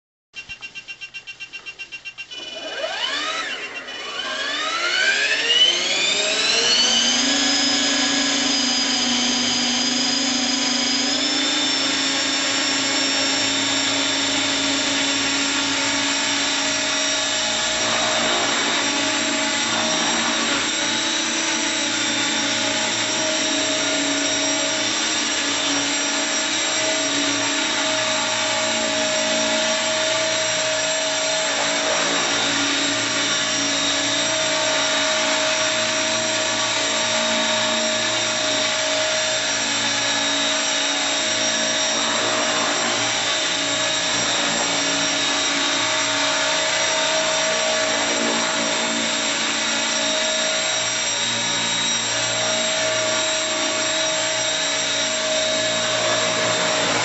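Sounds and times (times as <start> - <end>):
electric helicopter motor whine: 2.2 - 57.0
rotor hum: 2.9 - 51.4.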